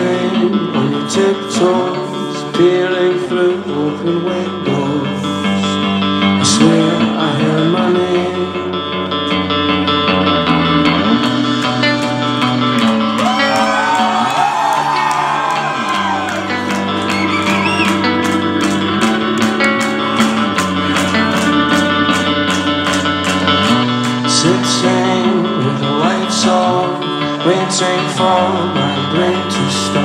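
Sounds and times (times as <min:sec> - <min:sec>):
bass line: 0:00.0 - 0:30.0
electric guitars: 0:00.0 - 0:30.0.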